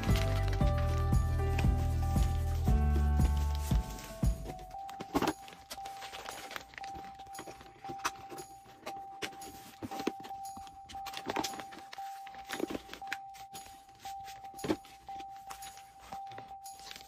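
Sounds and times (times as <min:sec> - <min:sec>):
plastic rustling and taps: 0:03.2 - 0:17.0.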